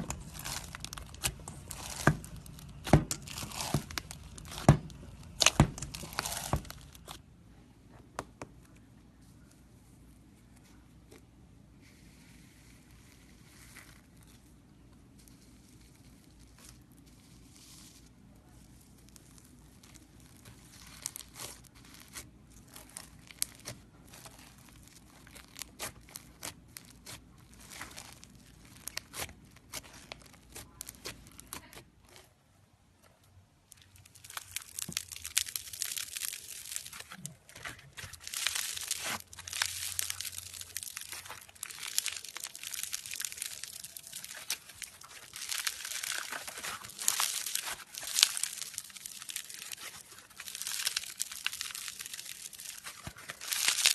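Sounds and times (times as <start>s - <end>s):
slime crackling and popping: 0.0s - 7.2s, 11.8s - 32.3s, 33.0s - 53.9s.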